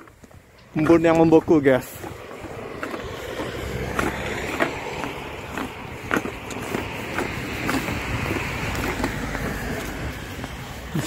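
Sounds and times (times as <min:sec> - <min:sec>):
footsteps on pavement: 0:00.0 - 0:11.0
low outdoor rumble: 0:00.0 - 0:11.0.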